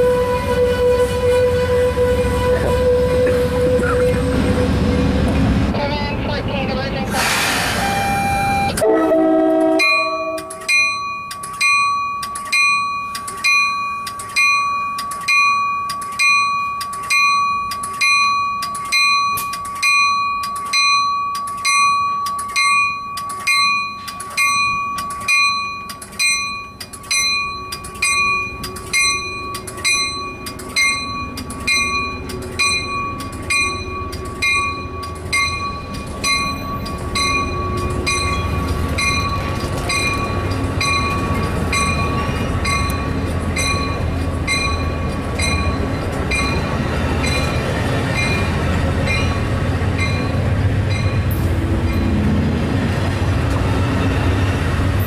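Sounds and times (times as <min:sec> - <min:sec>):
train rolling rumble: 0:00.0 - 0:55.0
train bell ringing: 0:08.2 - 0:52.5.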